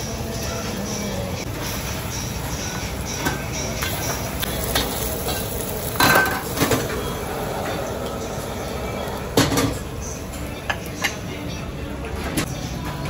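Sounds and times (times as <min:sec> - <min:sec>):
gas burner and frying hiss: 0:00.0 - 0:13.0.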